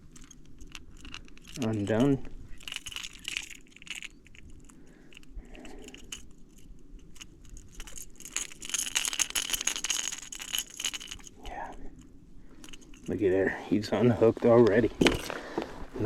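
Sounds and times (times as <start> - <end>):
fishing lure hooks rattling: 0.0 - 13.2.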